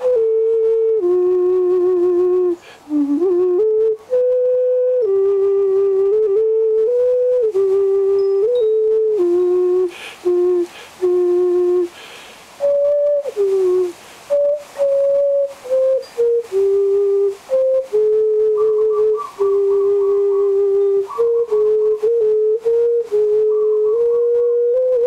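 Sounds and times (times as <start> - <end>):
vessel flute melody: 0.0 - 11.9, 12.6 - 25.0.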